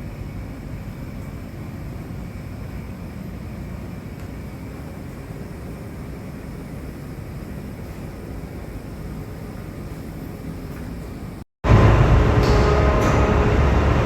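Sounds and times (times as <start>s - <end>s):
engine room machinery drone: 0.0s - 14.0s.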